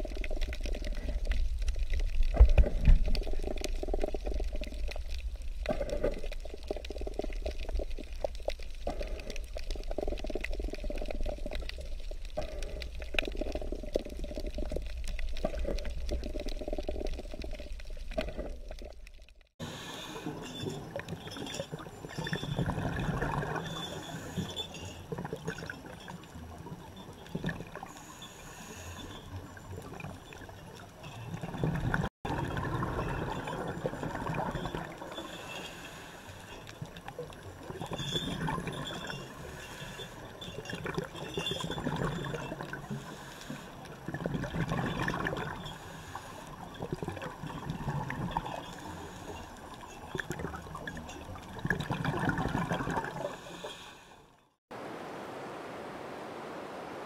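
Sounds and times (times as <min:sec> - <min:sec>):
underwater regulator bubbling: 0:00.0 - 0:28.1, 0:29.1 - 0:35.4, 0:40.5 - 0:53.4.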